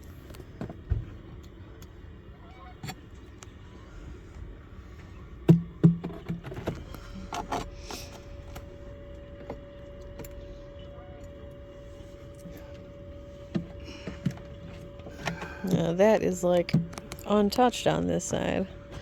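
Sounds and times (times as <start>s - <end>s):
steady single-pitched hum: 0.0s - 19.0s.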